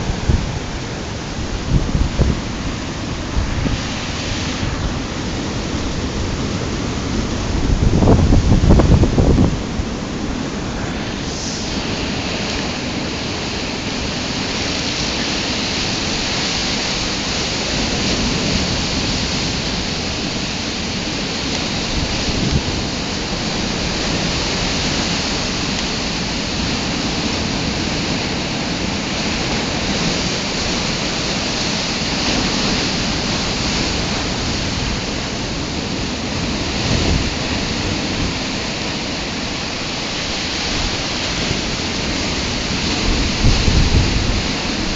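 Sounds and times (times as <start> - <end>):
waves breaking on beach: 0.0 - 44.9
wind buffeting microphone: 0.0 - 44.9.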